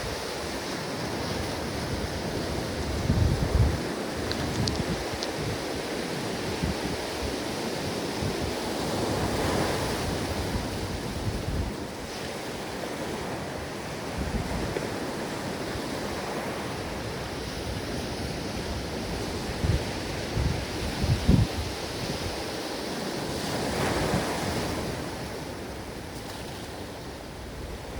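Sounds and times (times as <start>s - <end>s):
ocean surf washing ashore: 0.0s - 27.9s
wind on microphone: 0.0s - 27.9s.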